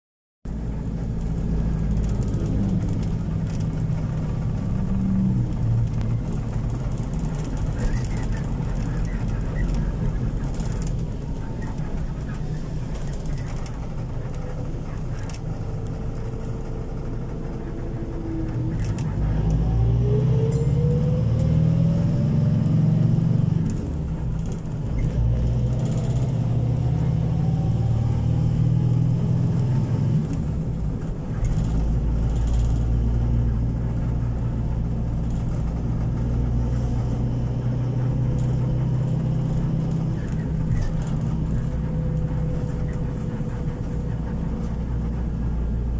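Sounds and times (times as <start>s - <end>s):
vehicle engine and road noise: 0.5s - 45.9s.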